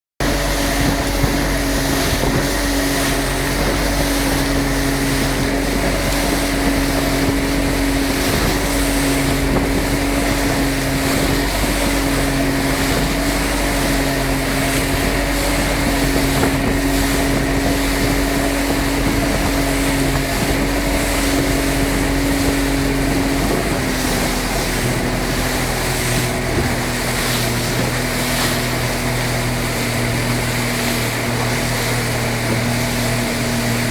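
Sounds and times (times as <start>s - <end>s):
motorboat engine running: 0.2s - 33.9s
wind and water rushing: 0.2s - 33.9s.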